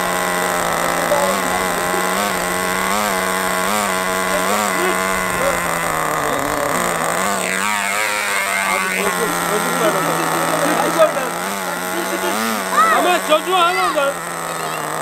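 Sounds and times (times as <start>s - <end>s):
engine throttle blips: 0.0s - 15.0s
model car engines idling: 0.0s - 15.0s.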